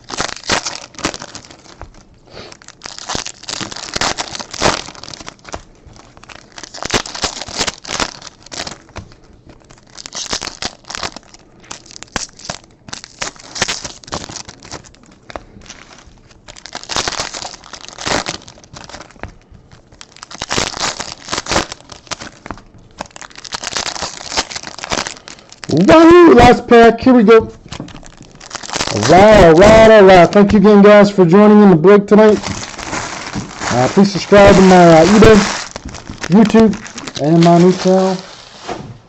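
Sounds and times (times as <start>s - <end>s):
foil wrappers tearing and crinkling: 0.0s - 31.1s, 32.2s - 38.7s.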